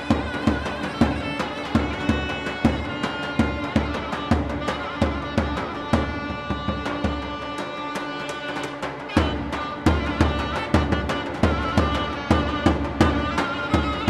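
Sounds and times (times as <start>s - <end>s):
large drum beating: 0.0s - 14.0s
solo wind instrument: 0.0s - 14.0s
string orchestra playing: 0.0s - 14.0s.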